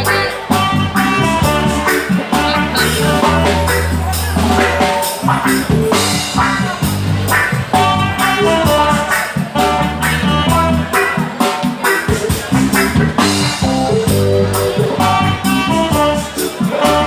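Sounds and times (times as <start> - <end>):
bass guitar: 0.0 - 17.0
drum kit: 0.0 - 17.0
guitar: 0.0 - 17.0.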